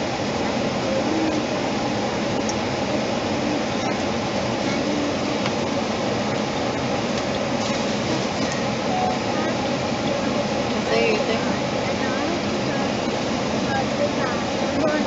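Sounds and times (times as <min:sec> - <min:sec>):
car cabin road and wind noise: 0:00.0 - 0:15.0.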